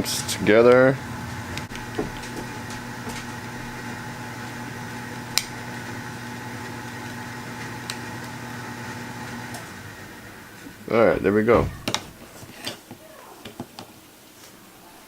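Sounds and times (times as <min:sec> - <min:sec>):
electrical hum: 0:00.0 - 0:13.4.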